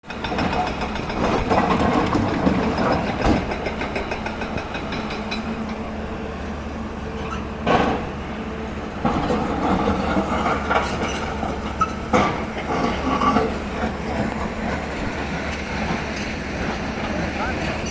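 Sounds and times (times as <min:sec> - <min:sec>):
excavator running: 0:00.0 - 0:17.9.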